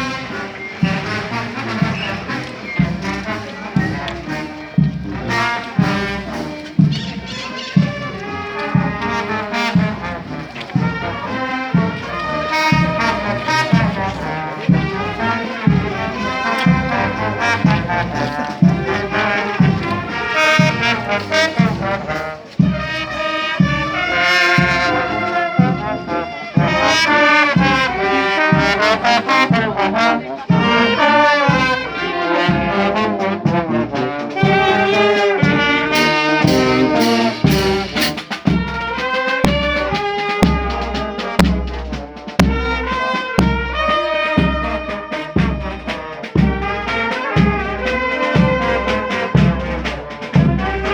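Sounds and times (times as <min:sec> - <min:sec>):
brass band playing: 0:00.0 - 0:50.9.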